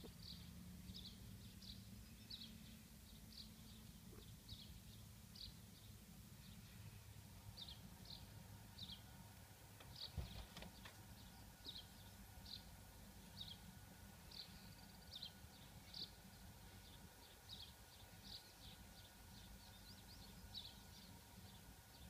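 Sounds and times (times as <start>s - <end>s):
small bird chirping: 0.0s - 9.1s, 9.8s - 22.0s
low steady hum: 0.0s - 22.0s.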